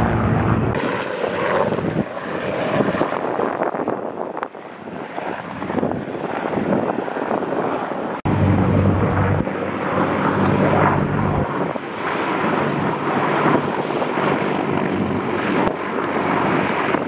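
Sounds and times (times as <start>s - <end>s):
helicopter rotor and turbine noise: 0.0s - 17.0s
wind on microphone: 0.0s - 17.0s.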